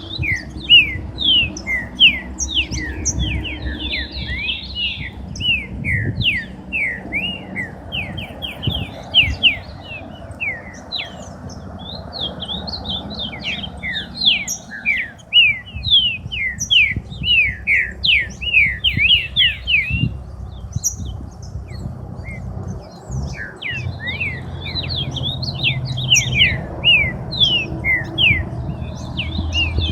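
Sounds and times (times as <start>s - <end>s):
songbirds chirping: 0.0s - 29.9s.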